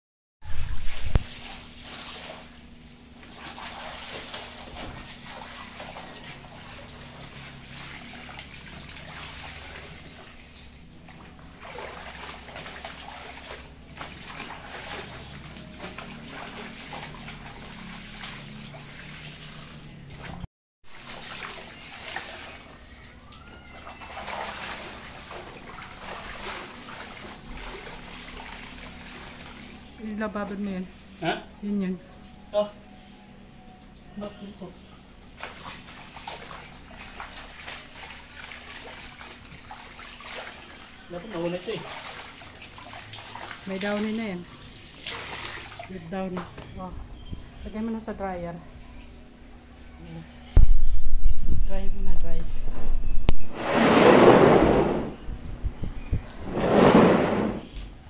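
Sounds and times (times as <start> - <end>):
water sloshing in a basin: 0.4 - 33.0, 33.6 - 49.1.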